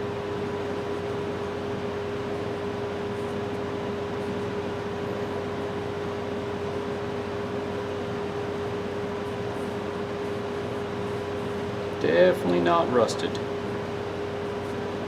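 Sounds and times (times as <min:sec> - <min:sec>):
motor or fan humming: 0:00.0 - 0:15.0.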